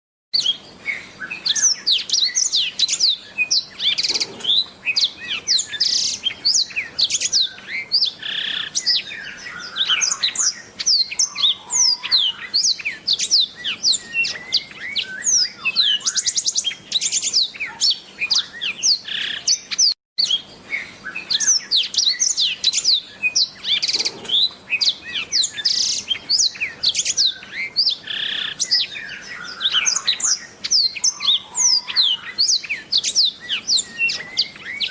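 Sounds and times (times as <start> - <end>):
canary twittering song: 0.4 - 34.9.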